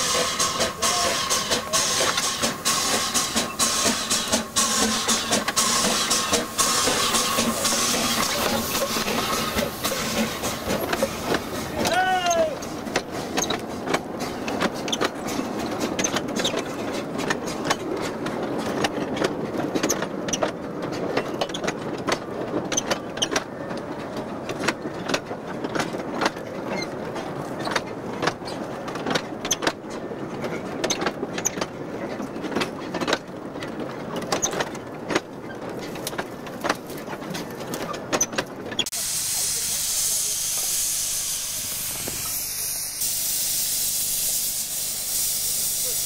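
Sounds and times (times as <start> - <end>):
wagons rattling and clanking: 0.0 - 39.6
wheels rumbling on rail: 0.0 - 46.0.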